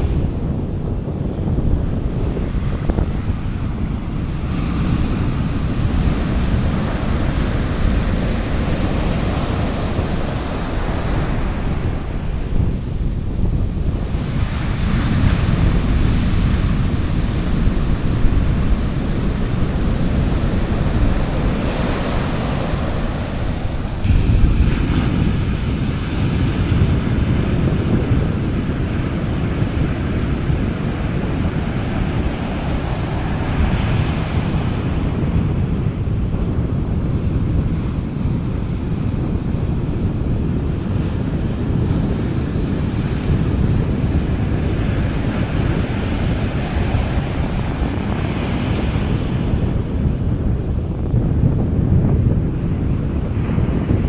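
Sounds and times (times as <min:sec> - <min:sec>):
sea waves washing onto beach: 0:00.0 - 0:50.8
wind on microphone: 0:00.0 - 0:54.0.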